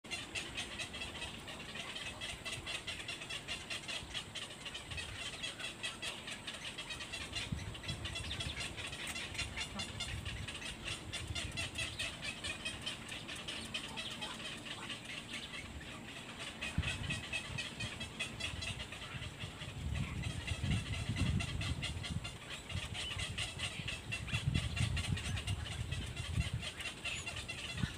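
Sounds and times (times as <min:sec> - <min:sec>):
heron chicks begging calls: 0:00.1 - 0:27.9.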